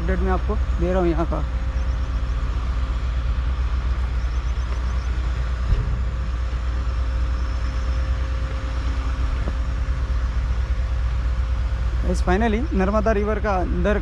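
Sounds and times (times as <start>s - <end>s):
heavy construction machinery engines: 0.0s - 14.0s
low rumble: 0.0s - 14.0s.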